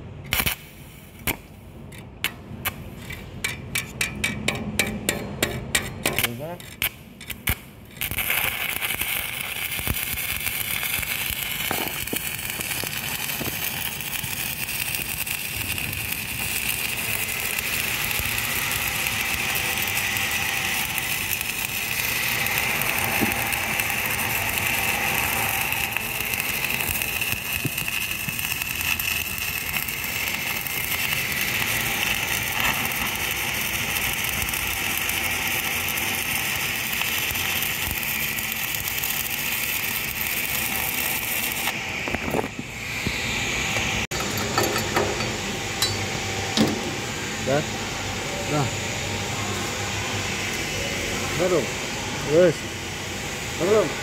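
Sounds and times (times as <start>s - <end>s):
welding arc crackling and sizzling: 0.0s - 54.0s.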